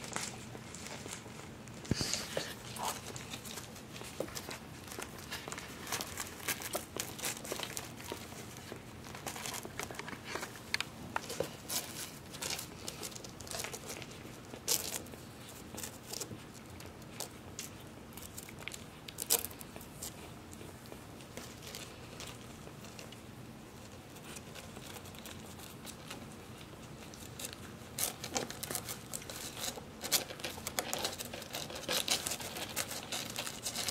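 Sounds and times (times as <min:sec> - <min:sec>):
rustling and crinkling: 0:00.0 - 0:33.9.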